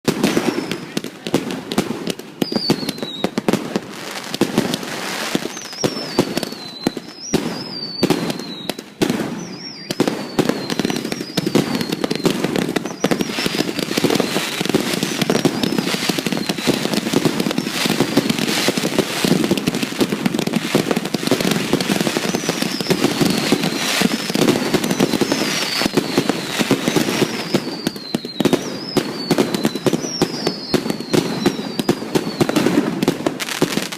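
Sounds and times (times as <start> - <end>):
fireworks bangs and crackles: 0.0 - 33.9
fireworks whistles falling in pitch: 0.0 - 33.9.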